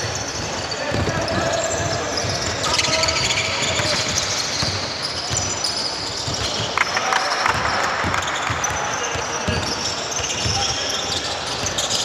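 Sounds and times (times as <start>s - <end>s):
basketball bouncing on court: 0.0s - 12.0s.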